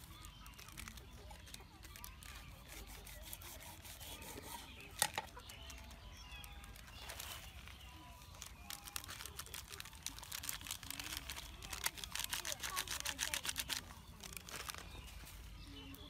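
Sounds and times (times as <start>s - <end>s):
plastic packet crinkling: 0.0s - 3.1s, 4.8s - 15.4s
faint bird chirps: 0.0s - 16.0s.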